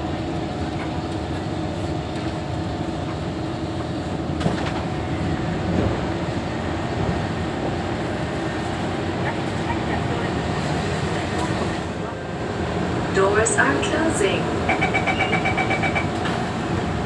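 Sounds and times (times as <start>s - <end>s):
train air-conditioning hum: 0.0s - 17.0s.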